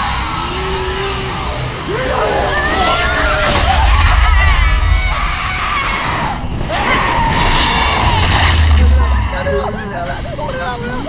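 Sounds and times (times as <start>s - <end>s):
deep rumble: 0.0s - 10.4s
people shouting and screaming: 0.0s - 10.6s.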